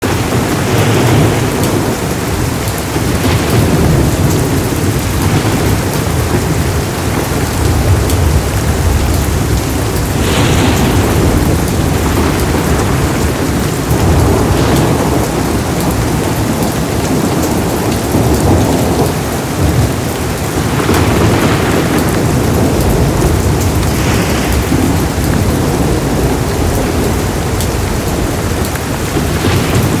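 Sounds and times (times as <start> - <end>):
heavy rain falling: 0.0 - 30.0
rolling thunder: 0.0 - 30.0.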